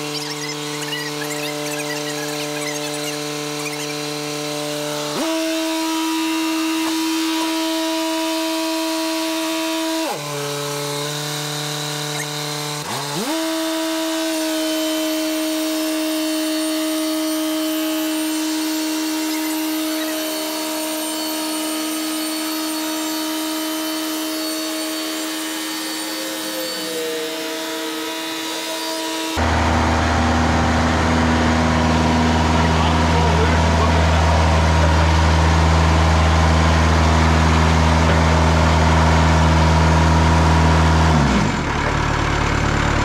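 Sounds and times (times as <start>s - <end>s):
band sawmill whining: 0.0s - 43.0s
low steady engine: 0.0s - 43.0s.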